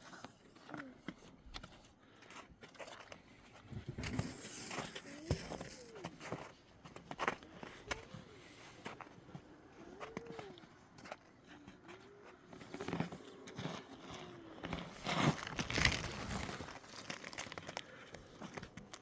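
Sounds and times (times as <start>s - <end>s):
crinkling and rustling: 0.0s - 19.0s.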